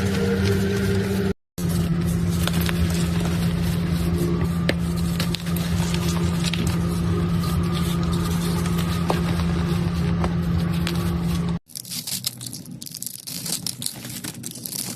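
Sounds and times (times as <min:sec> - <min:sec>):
machine hum: 0:00.0 - 0:14.9.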